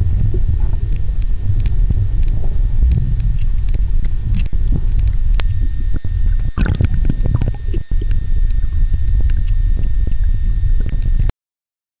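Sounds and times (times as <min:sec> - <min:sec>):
underwater low rumble: 0:00.0 - 0:11.3
underwater clicks: 0:00.9 - 0:11.2.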